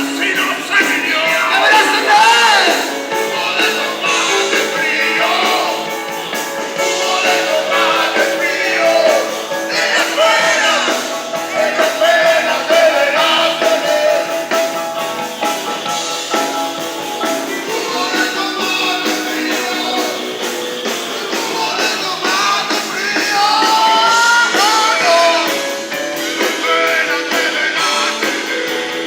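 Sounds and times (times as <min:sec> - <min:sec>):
blues rock band playing: 0:00.0 - 0:29.0
person singing: 0:00.0 - 0:29.0.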